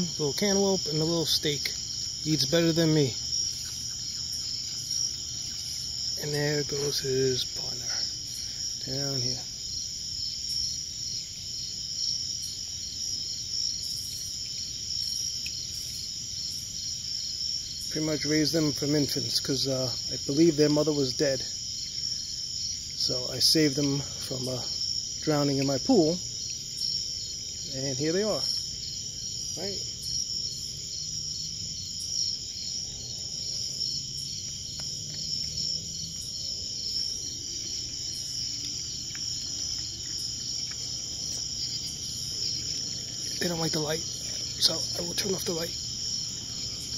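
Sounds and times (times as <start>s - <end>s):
insects trilling: 0.0s - 46.9s
pulsing insect chirp: 0.0s - 46.9s.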